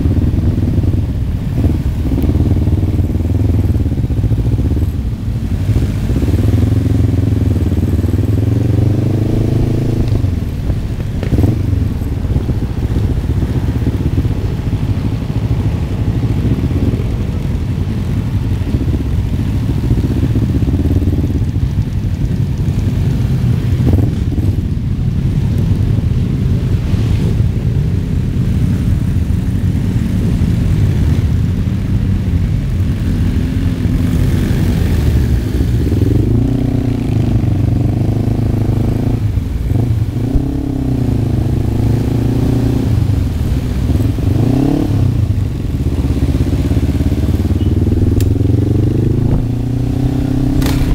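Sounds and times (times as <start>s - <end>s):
motorcycle engines running: 0.0s - 50.9s.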